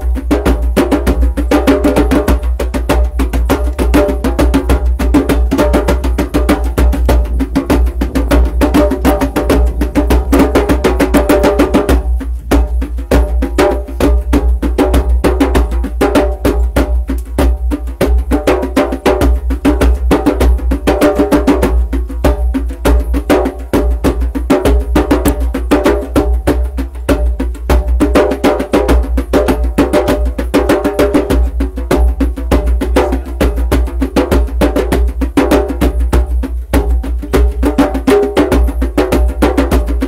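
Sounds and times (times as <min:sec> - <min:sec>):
hand drums played fast: 0:00.0 - 0:40.0.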